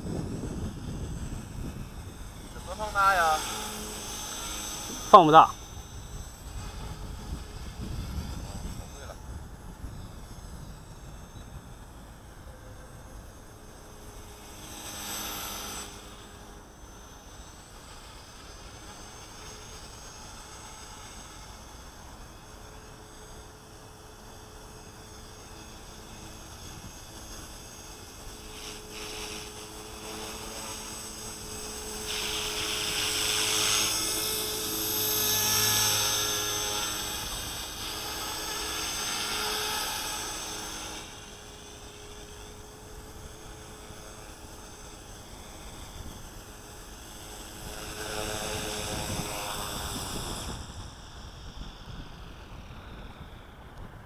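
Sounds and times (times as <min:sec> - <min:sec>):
rc helicopter whine: 0:00.0 - 0:54.0.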